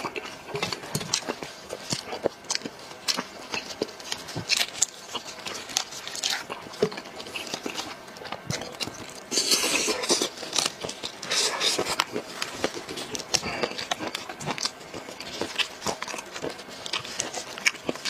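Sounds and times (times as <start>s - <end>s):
wet chewing and smacking: 0.0s - 18.0s.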